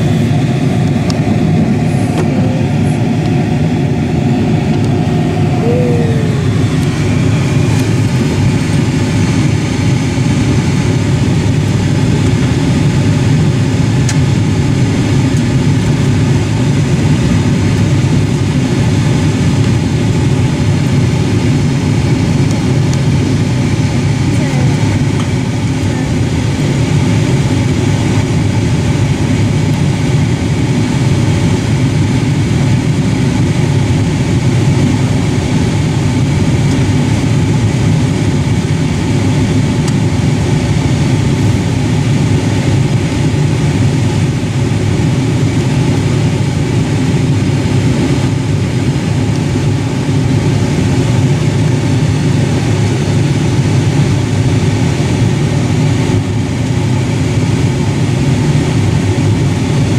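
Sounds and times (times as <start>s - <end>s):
car engine and road noise: 0.0s - 48.5s.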